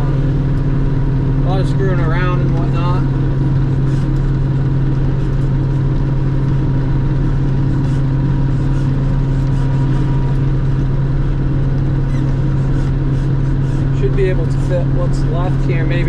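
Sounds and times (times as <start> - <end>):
harvester engine drone: 0.0 - 16.0.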